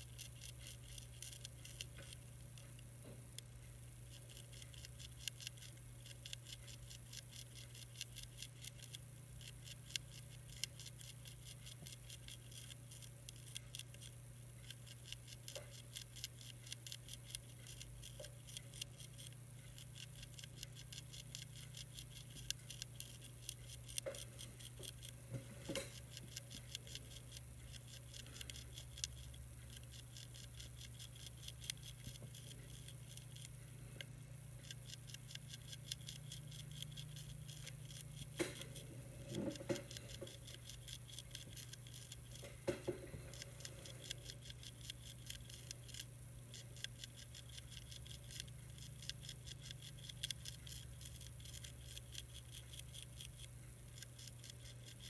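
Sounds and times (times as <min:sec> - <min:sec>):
caterpillar chewing leaf: 0:00.0 - 0:55.0
steady low hum: 0:00.0 - 0:55.0.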